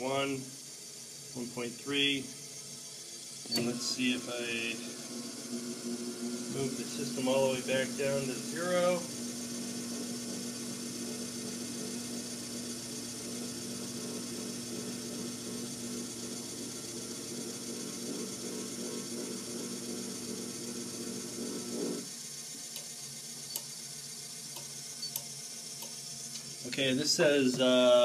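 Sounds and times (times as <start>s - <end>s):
incline motor running: 0.0s - 28.0s.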